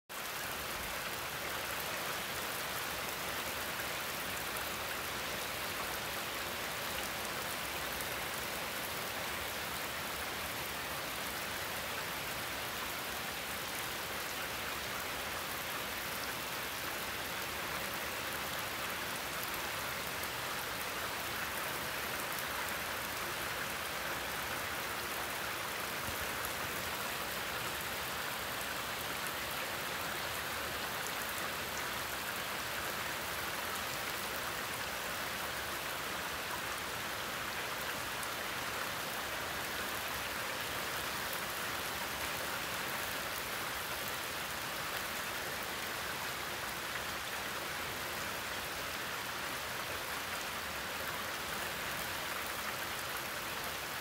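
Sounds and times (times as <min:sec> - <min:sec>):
heavy rain pouring on lawn and trees: 0:00.1 - 0:54.0.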